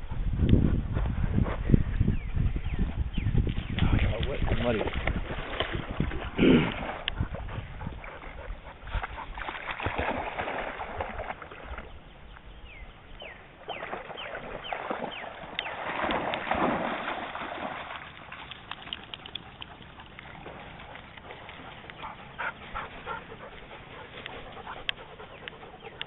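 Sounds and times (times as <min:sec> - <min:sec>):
dogs splashing through water: 0:03.4 - 0:26.0.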